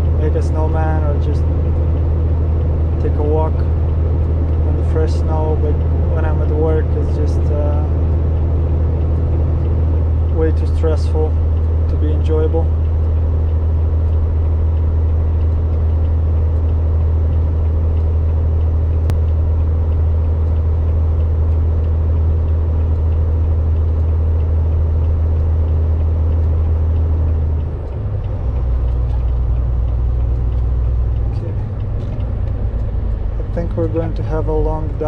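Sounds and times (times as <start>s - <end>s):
truck engine drone: 0.0s - 35.0s.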